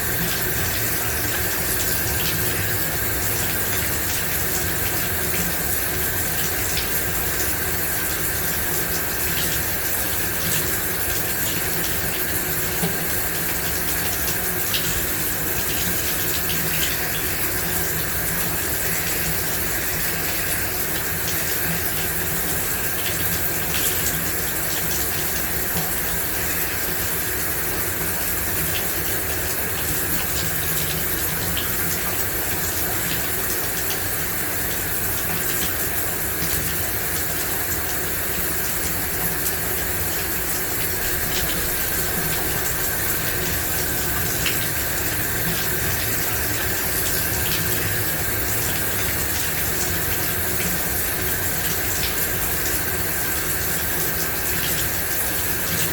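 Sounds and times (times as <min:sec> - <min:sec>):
shower water spraying: 0:00.0 - 0:55.9.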